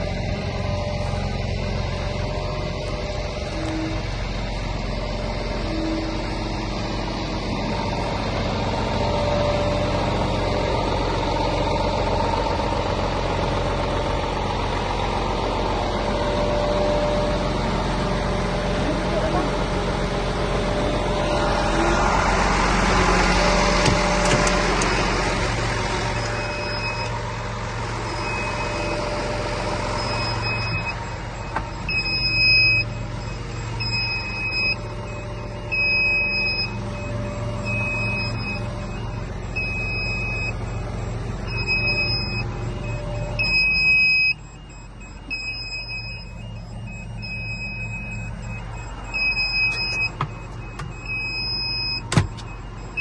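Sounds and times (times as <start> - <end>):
lorry diesel engine running: 0.0 - 53.0
reversing alarm beeping: 0.0 - 53.0.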